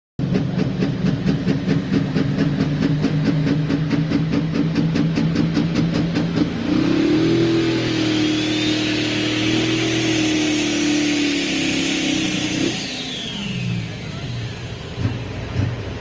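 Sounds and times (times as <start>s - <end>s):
tractor engine running: 0.2s - 16.0s.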